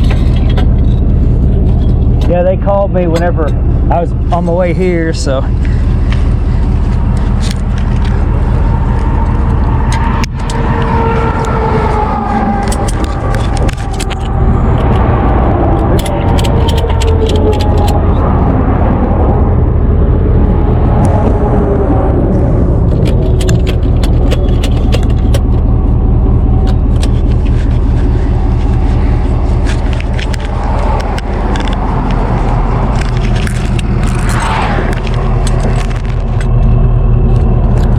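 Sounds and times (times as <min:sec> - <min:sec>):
faint whine: 0:00.0 - 0:37.9
road noise: 0:00.0 - 0:37.9
traffic rumble: 0:00.0 - 0:37.9
truck engine running: 0:00.0 - 0:37.9.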